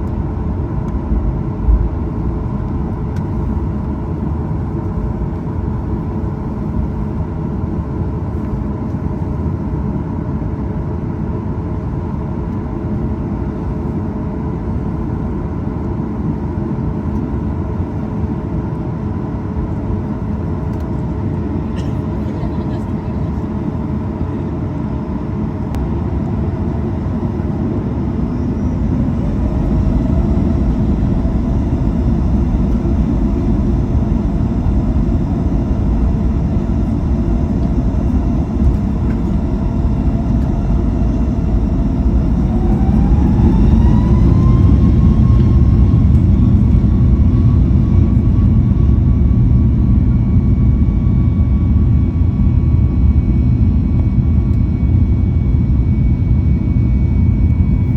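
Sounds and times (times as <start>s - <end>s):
deep engine rumble: 0.0s - 57.9s
jet engine whine: 0.0s - 57.9s.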